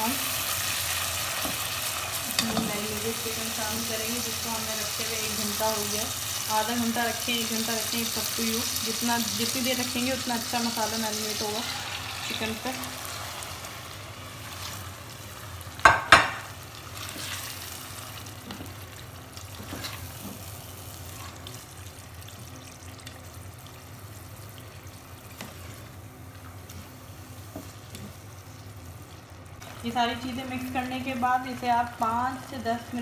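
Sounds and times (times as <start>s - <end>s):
low sizzle in a pot: 0.0s - 33.0s.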